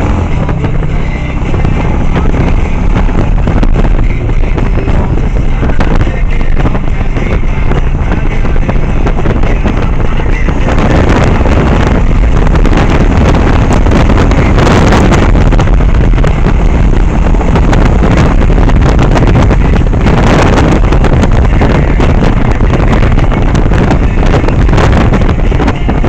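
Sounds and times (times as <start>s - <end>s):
motorcycle engine running: 0.0s - 26.0s
road noise: 0.0s - 26.0s
wind rushing over microphone: 0.0s - 26.0s.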